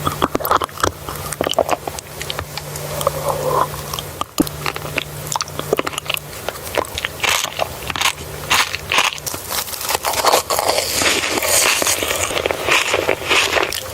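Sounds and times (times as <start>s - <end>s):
person chewing food: 0.0s - 13.9s.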